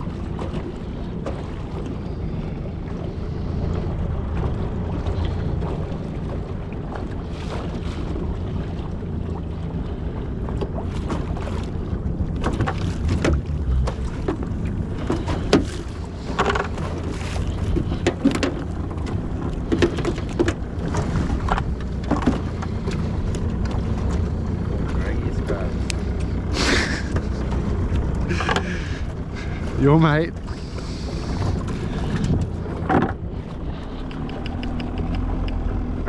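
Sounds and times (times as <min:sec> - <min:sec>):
boat motor idling: 0:00.0 - 0:36.0.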